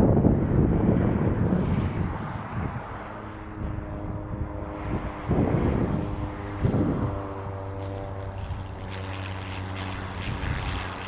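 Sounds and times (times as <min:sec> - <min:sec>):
turboprop engines humming: 0:00.0 - 0:11.0
wind buffeting microphone: 0:00.0 - 0:11.0.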